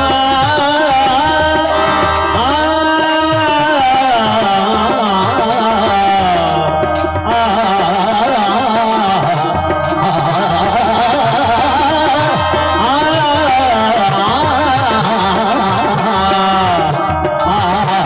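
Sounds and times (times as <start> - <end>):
harmonium: 0.0 - 18.0
person singing ornamented lines: 0.0 - 18.0
tabla: 0.0 - 18.0.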